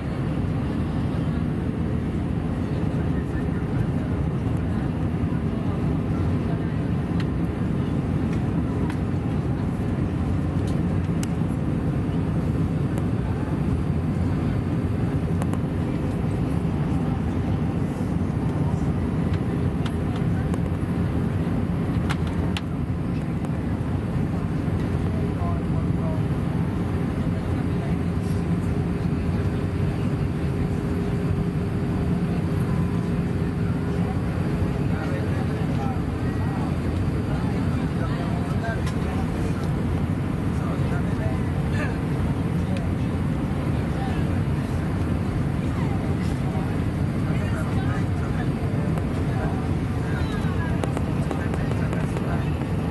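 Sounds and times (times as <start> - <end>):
aircraft cabin engine drone: 0.0 - 52.9.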